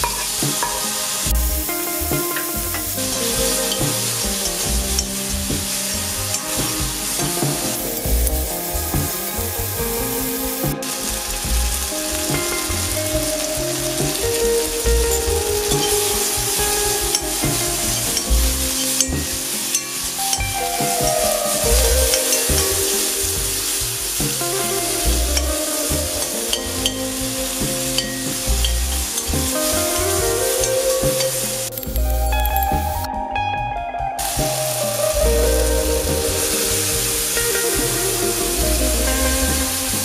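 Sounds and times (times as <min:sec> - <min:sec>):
tomatoes sizzling in hot oil: 0:00.0 - 0:33.1, 0:34.2 - 0:40.0.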